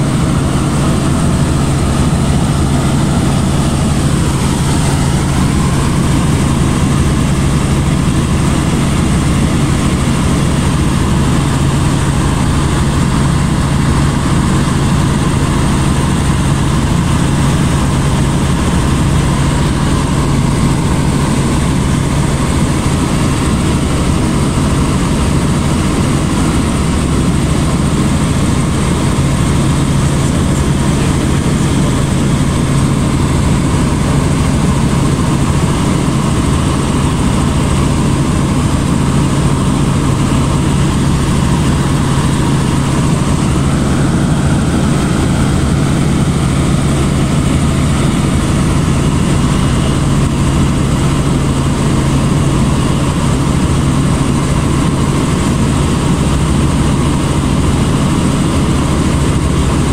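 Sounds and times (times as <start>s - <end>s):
constant low hum: 0.0s - 59.9s
helicopter engine and rotor drone: 0.0s - 59.9s.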